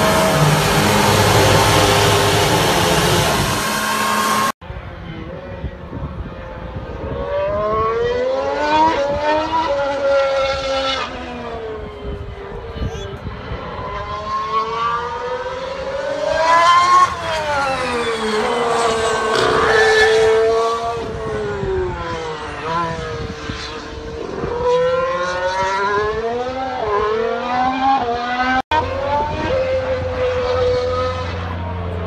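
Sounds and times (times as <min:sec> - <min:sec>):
racing car engines: 0:00.0 - 0:32.0.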